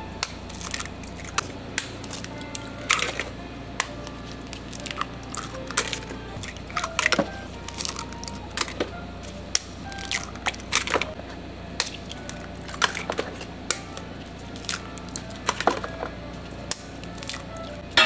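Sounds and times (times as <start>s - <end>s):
eggs cracking: 0.2s - 18.0s.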